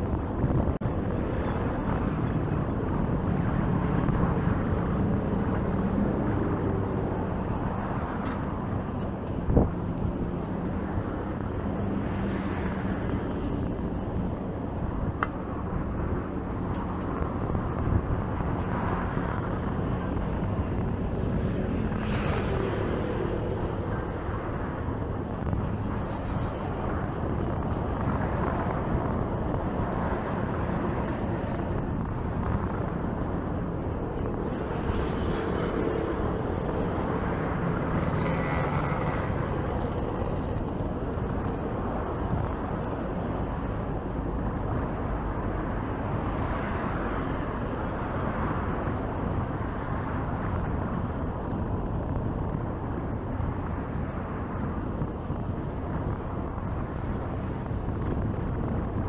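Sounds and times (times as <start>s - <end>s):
road traffic passing: 0.0s - 59.0s.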